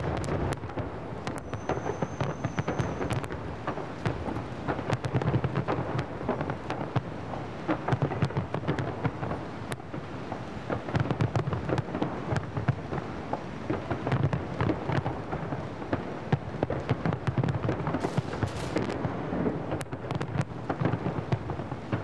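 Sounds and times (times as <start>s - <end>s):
dense firework crackling: 0.0s - 22.0s
low rumble of firework bursts: 0.0s - 22.0s.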